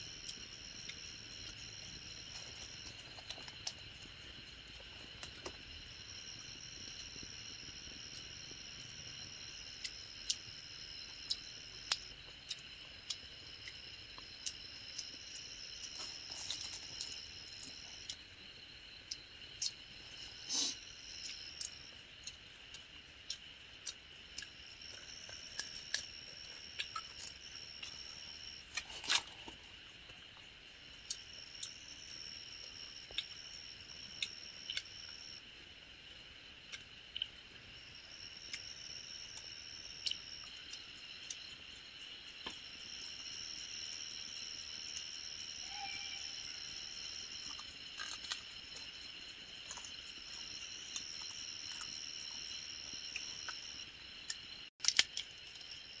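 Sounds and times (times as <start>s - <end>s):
high insect trill: 0.0s - 56.0s
night insects chorus: 0.0s - 56.0s.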